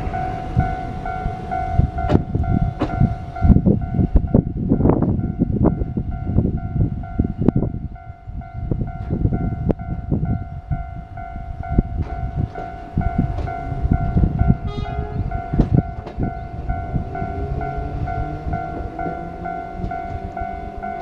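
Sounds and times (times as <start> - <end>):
level crossing warning bell: 0.0 - 21.0
tram rumbling and knocking: 0.0 - 21.0.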